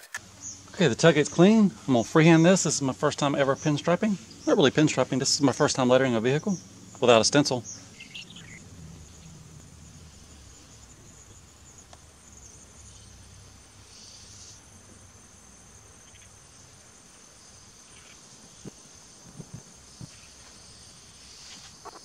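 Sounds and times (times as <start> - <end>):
high-pitched insect trill: 0.2 - 22.0.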